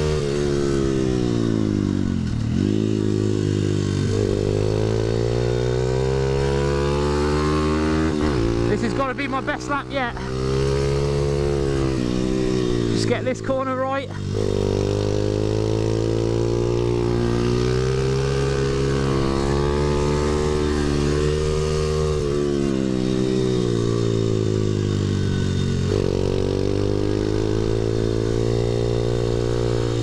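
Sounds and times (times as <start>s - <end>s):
small motorbike engine revving: 0.0s - 30.0s.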